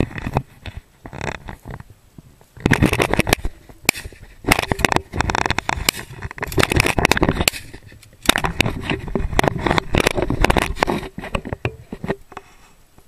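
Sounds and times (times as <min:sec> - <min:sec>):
dry grass crackling and scraping: 0:00.0 - 0:13.0.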